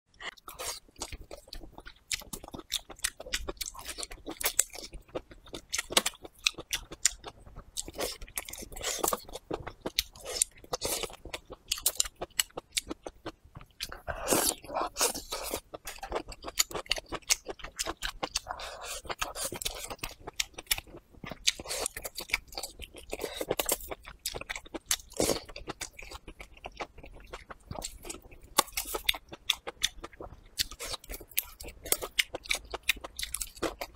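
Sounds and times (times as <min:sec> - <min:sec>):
person biting and chewing: 0:00.4 - 0:13.0, 0:13.8 - 0:33.9.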